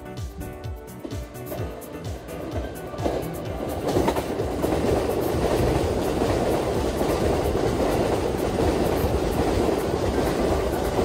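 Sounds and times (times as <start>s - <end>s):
train wheels rumbling on rails: 0.1s - 11.0s.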